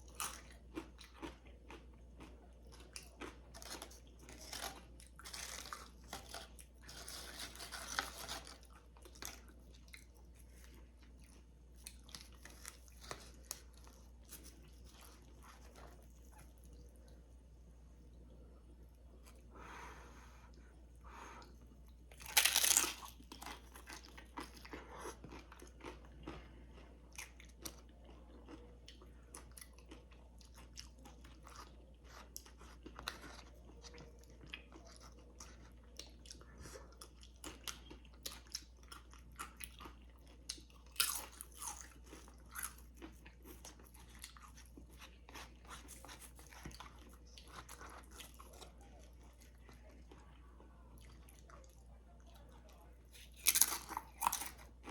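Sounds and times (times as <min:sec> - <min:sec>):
chips crunching while chewed: 0:00.0 - 0:16.0, 0:22.1 - 0:50.1, 0:53.1 - 0:54.9.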